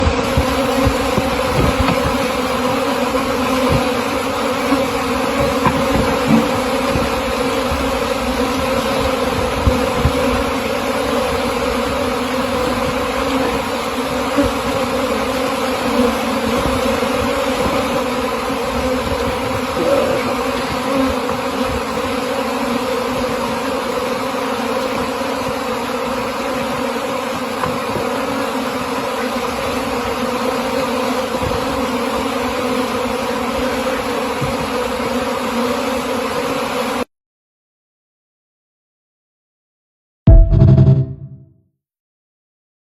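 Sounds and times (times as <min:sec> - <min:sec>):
honeybees buzzing: 0:00.0 - 0:37.1.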